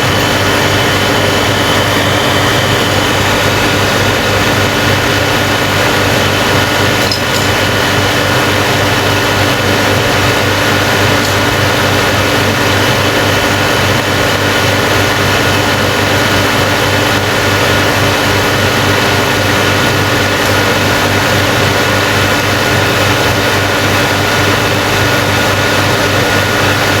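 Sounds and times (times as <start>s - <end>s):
factory machinery running: 0.0s - 27.0s.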